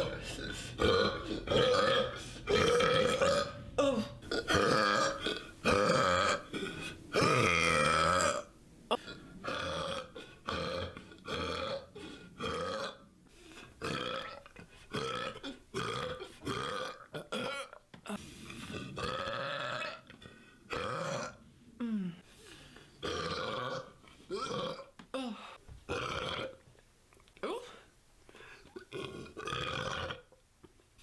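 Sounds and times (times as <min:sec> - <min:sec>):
person burping: 0:00.0 - 0:13.0, 0:13.8 - 0:22.2, 0:23.0 - 0:26.6, 0:27.4 - 0:27.8, 0:28.7 - 0:30.4.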